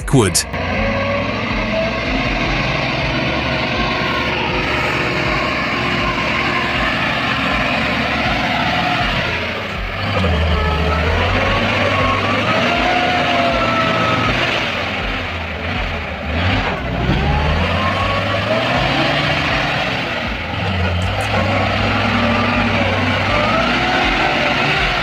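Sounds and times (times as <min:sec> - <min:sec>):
truck engine whining: 0:00.0 - 0:25.0.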